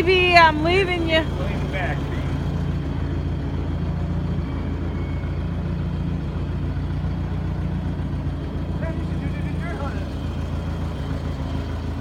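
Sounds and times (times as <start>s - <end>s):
forklift engine humming: 0.0s - 12.0s.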